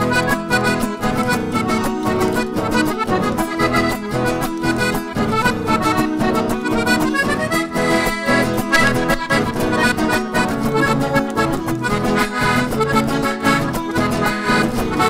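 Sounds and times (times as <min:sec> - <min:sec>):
accordion melody: 0:00.0 - 0:15.0
acoustic guitars strumming: 0:00.0 - 0:15.0.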